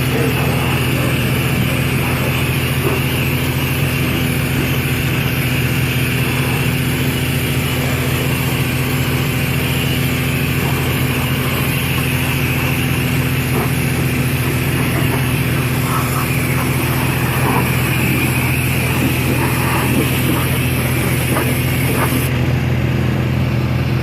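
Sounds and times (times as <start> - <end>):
water jet hissing: 0.0 - 22.3
power washer engine hum: 0.0 - 24.0.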